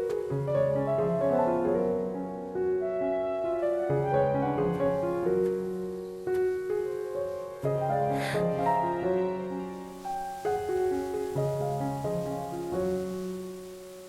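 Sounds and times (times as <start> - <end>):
soft slow piano music: 0.0 - 14.0.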